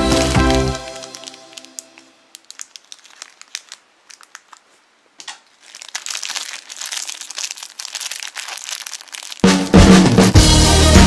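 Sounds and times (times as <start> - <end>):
plastic wrapper crinkling: 0.0 - 9.7.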